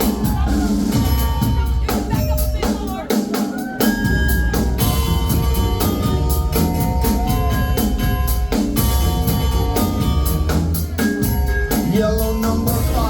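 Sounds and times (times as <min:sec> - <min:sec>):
heavy bass line: 0:00.0 - 0:03.0, 0:04.0 - 0:13.0
drum kit beat: 0:00.0 - 0:13.0
live rock band playing: 0:00.0 - 0:13.0.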